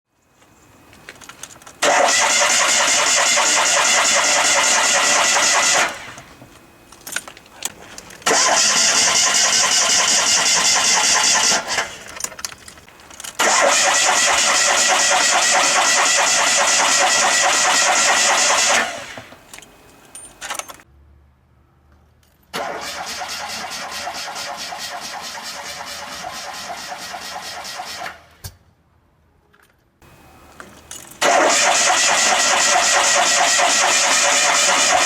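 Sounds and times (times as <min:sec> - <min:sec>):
engine cranking by starter motor: 0:01.2 - 0:06.4, 0:07.0 - 0:20.8, 0:22.5 - 0:28.4, 0:30.1 - 0:35.0.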